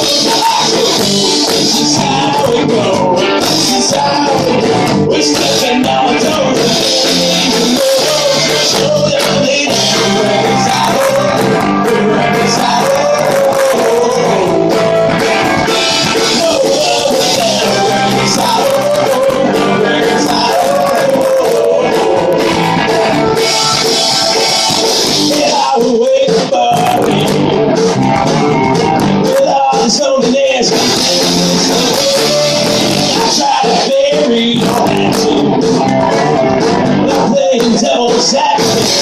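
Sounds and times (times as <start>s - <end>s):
person singing: 0.0s - 39.0s
rock band playing: 0.0s - 39.0s.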